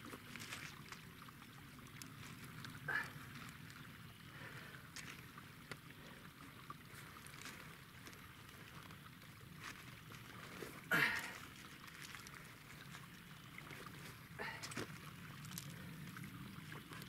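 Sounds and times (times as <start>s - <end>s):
faint water noise: 0.0s - 17.0s.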